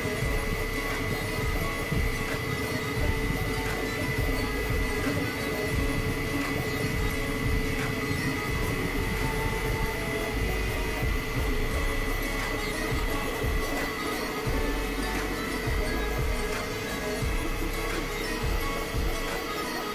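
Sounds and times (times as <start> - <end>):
cooling fans running: 0.0 - 19.9
stepper motors driving print head: 0.0 - 19.9.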